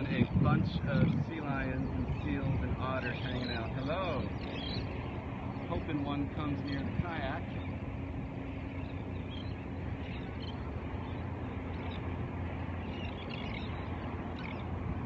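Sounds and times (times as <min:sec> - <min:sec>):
outdoor background rumble: 0:00.0 - 0:15.0
faint bird chirps: 0:01.8 - 0:14.8.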